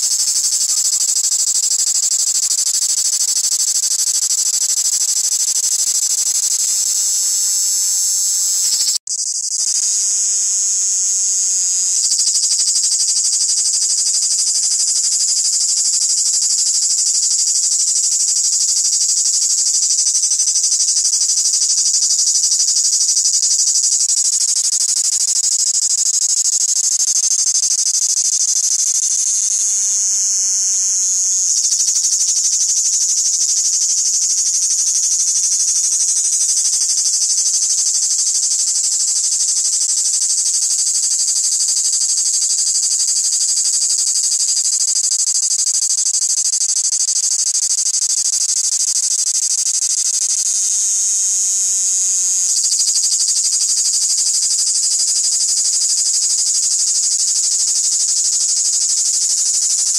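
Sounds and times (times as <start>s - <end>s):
cicada buzzing: 0.0s - 59.9s.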